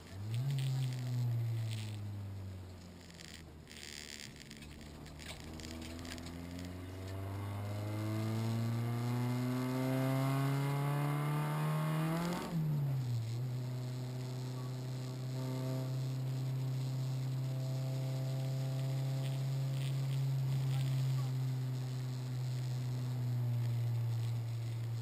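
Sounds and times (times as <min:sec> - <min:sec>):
car engine revving: 0:00.0 - 0:25.0
gear change: 0:00.0 - 0:25.0.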